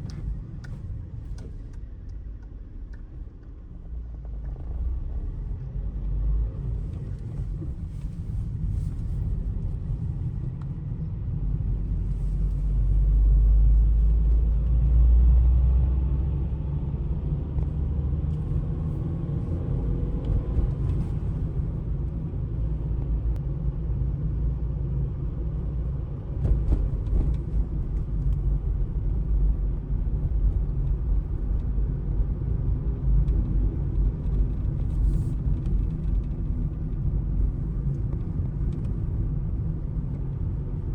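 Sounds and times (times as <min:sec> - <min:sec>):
road traffic rumble: 0:00.0 - 0:40.9.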